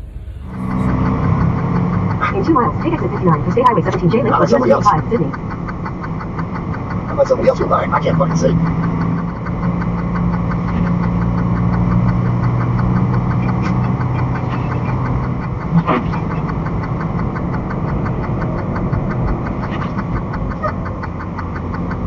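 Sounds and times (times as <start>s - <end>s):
road and wind noise: 0.0s - 22.0s
truck diesel engine droning: 0.0s - 22.0s.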